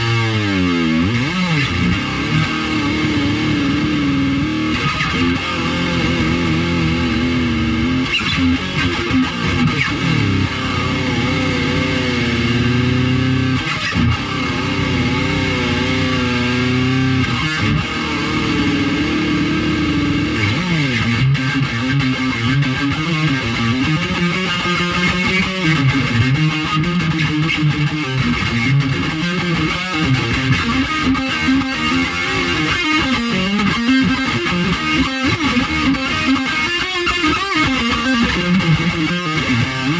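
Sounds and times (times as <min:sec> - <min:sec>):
electric guitar riff: 0:00.0 - 0:39.9.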